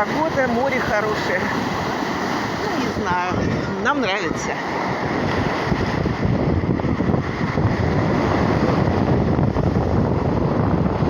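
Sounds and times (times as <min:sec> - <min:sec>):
sea waves on the shore: 0:00.0 - 0:11.0
wind buffeting the microphone: 0:00.0 - 0:11.0.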